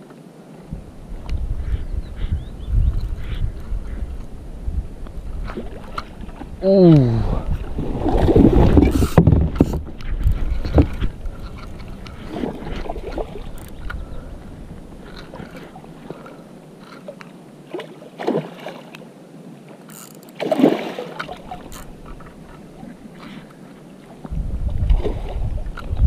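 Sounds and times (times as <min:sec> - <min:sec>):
water splashing around kayak: 0:03.1 - 0:26.0.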